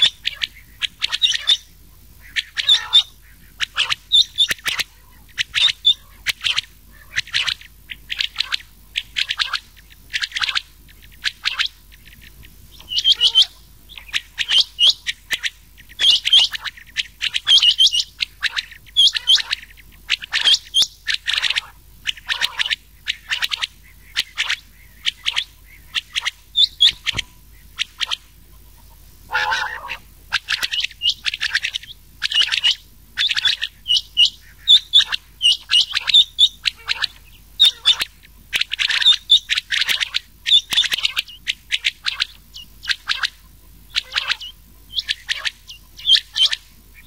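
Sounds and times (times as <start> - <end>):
quail calls: 0.0 - 47.0.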